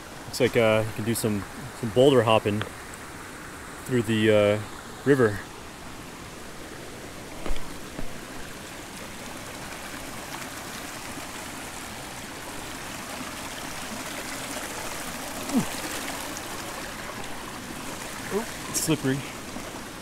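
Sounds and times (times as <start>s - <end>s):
river rushing over boulders: 0.0s - 20.0s.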